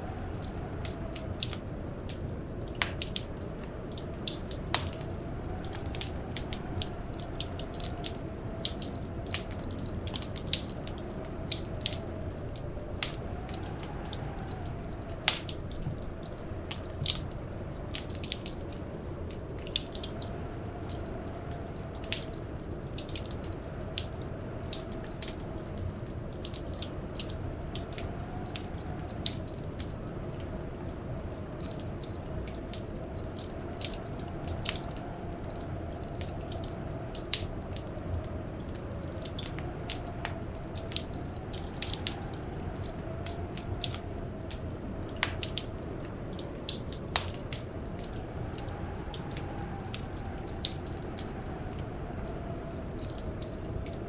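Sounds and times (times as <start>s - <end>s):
wind whistling: 0.0s - 54.0s
wood fire crackling and popping: 0.0s - 54.0s.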